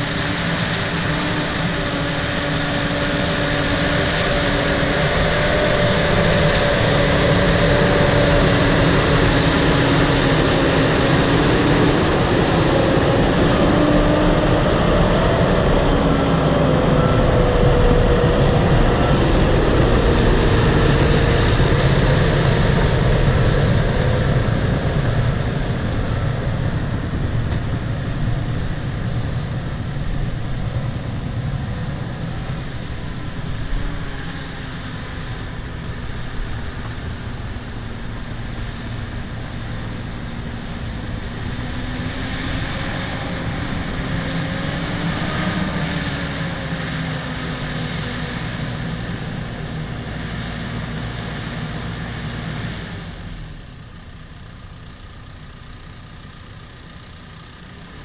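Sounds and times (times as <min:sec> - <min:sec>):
wavering pitched whines: 0:00.0 - 0:50.7
bulldozer diesel engine running: 0:00.0 - 0:58.0.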